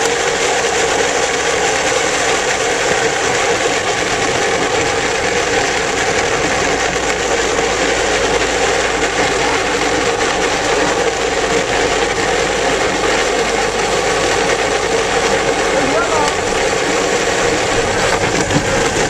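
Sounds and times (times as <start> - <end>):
plastic wheels rolling on asphalt: 0.0 - 19.0.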